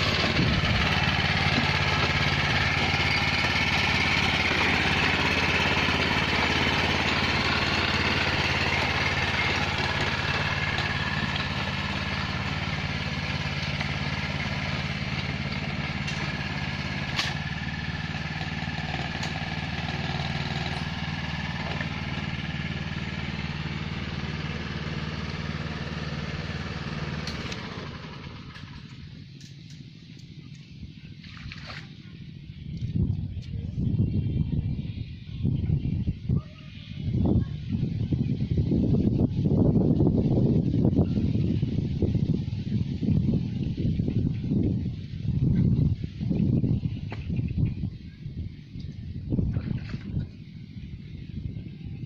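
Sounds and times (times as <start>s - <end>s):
small engine running: 0.0s - 52.0s.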